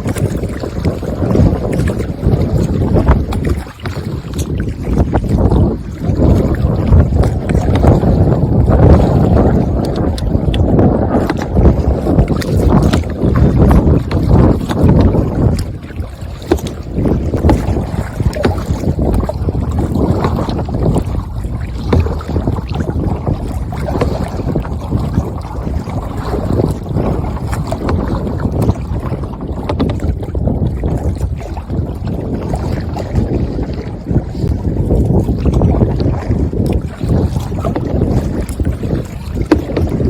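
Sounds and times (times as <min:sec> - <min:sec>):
water sloshing around kayak: 0:00.0 - 0:40.0
wind buffeting microphone: 0:00.0 - 0:40.0.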